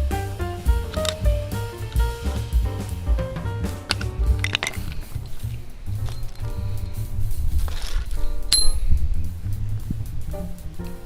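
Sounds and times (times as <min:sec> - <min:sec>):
background music with drums and bass: 0:00.0 - 0:11.0.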